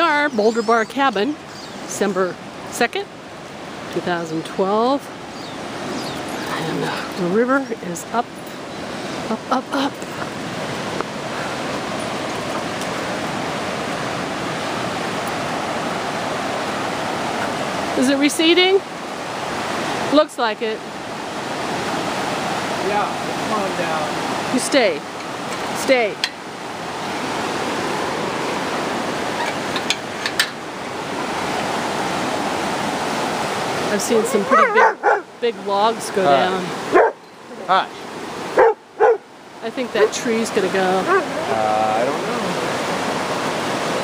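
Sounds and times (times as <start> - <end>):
fast river water rushing: 0.0 - 44.0.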